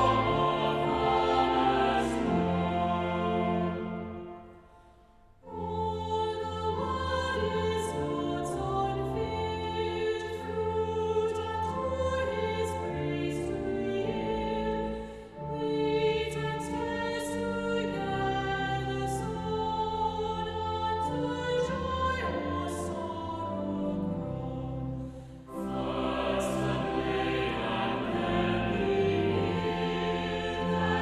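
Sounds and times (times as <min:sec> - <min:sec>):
choir singing with accompaniment: 0:00.0 - 0:31.0.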